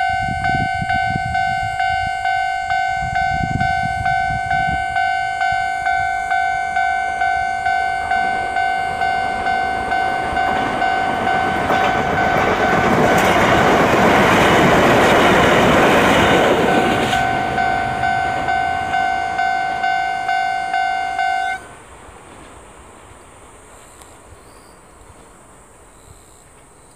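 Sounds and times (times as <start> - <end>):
level-crossing alarm bell: 0.0 - 21.7
train rumble: 0.0 - 26.9.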